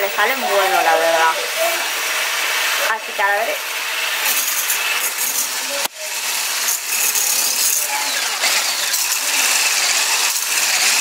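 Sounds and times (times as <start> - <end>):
immersion blender running: 0.0 - 11.0.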